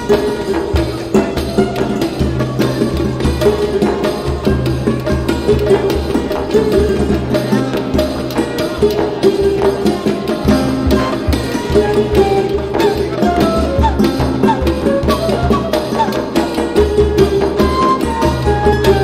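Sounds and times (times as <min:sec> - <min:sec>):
folk tune: 0:00.0 - 0:19.0
hand drum beat: 0:00.0 - 0:19.0.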